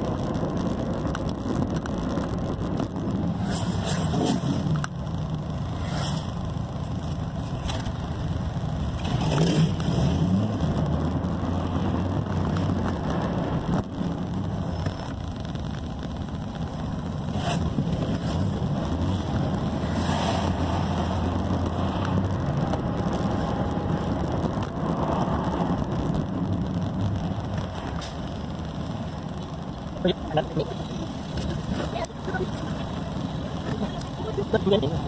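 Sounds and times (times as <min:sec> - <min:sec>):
car engine drone: 0:00.0 - 0:35.0
tyre and road noise: 0:00.0 - 0:35.0.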